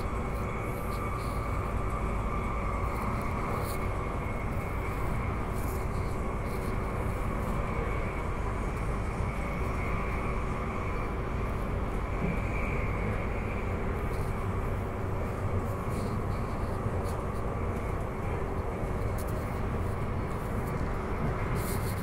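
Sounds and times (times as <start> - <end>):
steady train whine: 0.0 - 22.0
train wheels rumbling on rail: 0.0 - 22.0.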